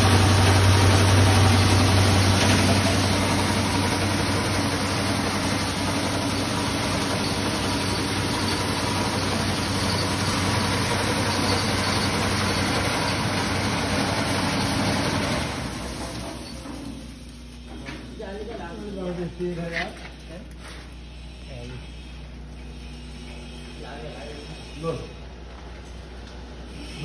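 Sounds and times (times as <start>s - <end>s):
electric motor hum: 0.0s - 27.0s.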